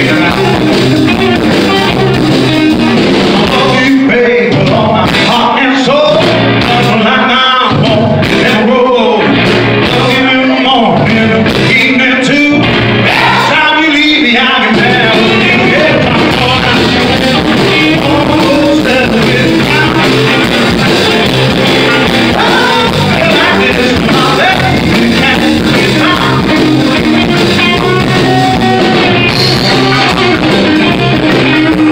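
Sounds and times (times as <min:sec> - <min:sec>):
blues rock band playing: 0:00.0 - 0:31.9
man singing: 0:00.0 - 0:31.9.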